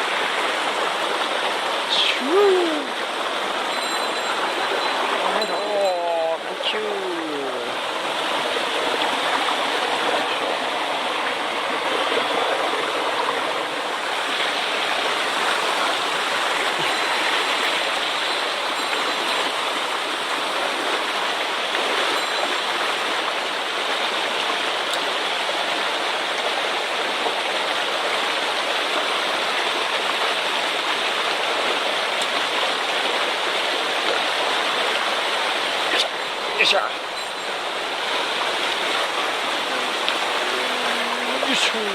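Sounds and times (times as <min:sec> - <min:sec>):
stream rushing over rocks: 0:00.0 - 0:41.9.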